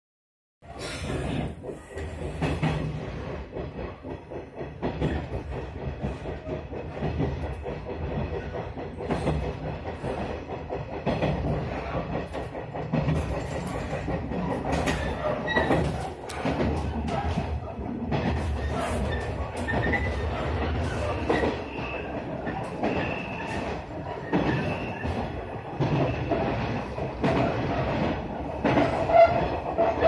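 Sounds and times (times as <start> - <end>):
train rumbling on rails: 0.6 - 30.0
wheels clicking on track: 0.7 - 30.0.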